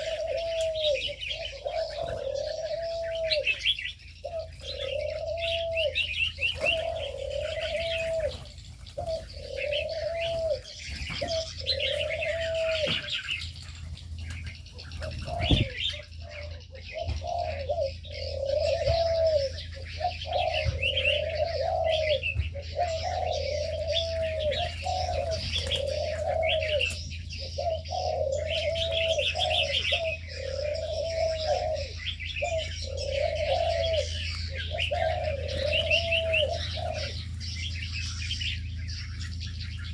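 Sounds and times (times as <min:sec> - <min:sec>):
doves cooing: 0:00.0 - 0:39.9
small birds chirping: 0:00.0 - 0:39.9
steady low hum: 0:00.0 - 0:39.9.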